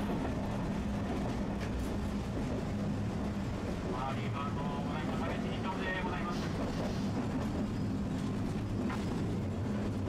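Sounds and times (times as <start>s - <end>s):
streetcar rumbling: 0.0s - 10.0s.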